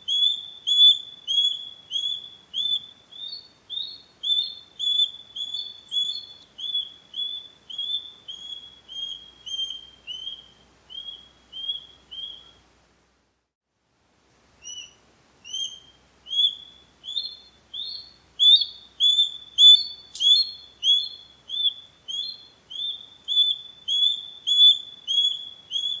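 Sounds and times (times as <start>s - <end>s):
osprey whistled calls: 0.0s - 12.6s, 14.6s - 26.0s.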